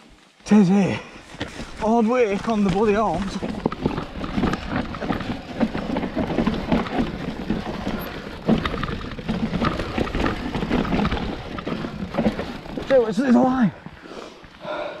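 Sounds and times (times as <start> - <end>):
bike rattling over rocks: 1.1 - 14.6.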